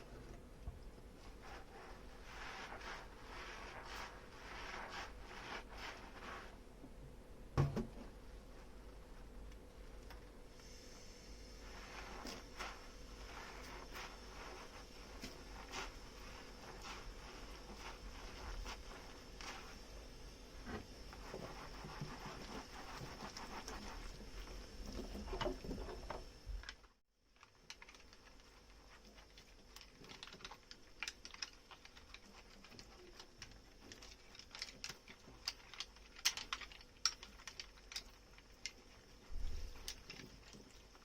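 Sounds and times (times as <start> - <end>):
sponge scrubbing soapy dishes: 1.1 - 6.9, 10.6 - 26.4, 28.2 - 41.0.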